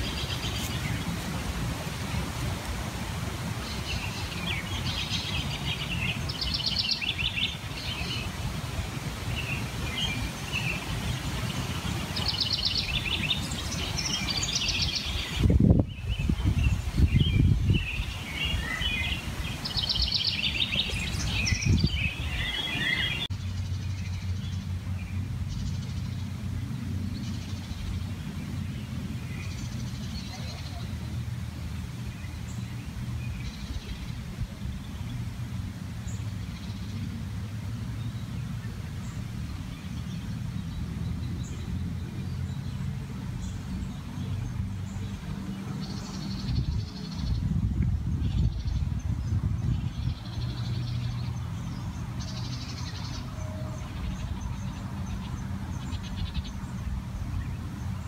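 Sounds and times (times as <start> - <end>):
songbirds chirping and singing: 3.5 - 35.4, 36.0 - 58.0.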